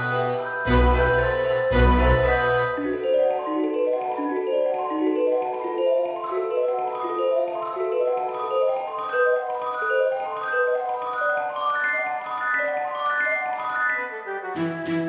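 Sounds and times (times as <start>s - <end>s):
mallet percussion tune: 0.0s - 15.0s.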